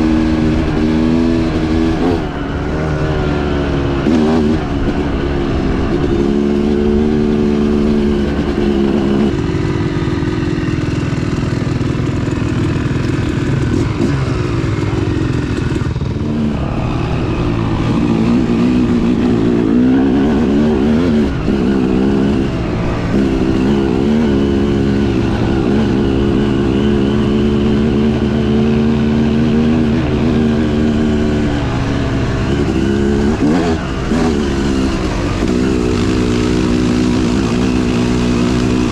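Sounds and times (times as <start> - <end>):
dirt bike engine running hard: 0.0 - 38.9.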